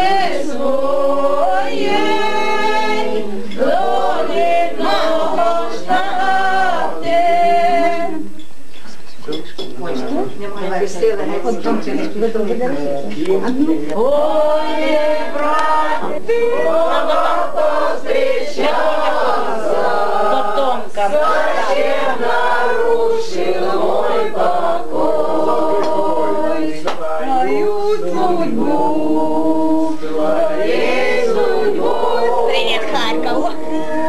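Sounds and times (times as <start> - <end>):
group singing unaccompanied: 0.0 - 8.4, 13.9 - 34.0.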